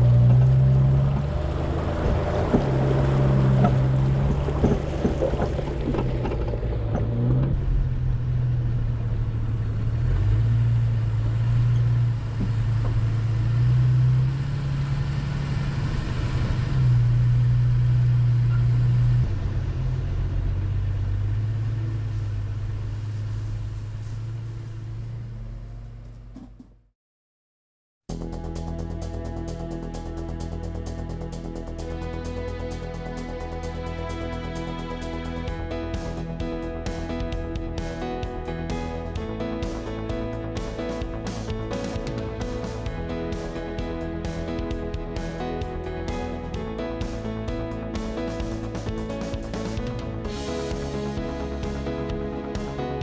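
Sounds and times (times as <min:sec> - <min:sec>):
car engine running: 0:00.0 - 0:26.4, 0:28.1 - 0:53.0.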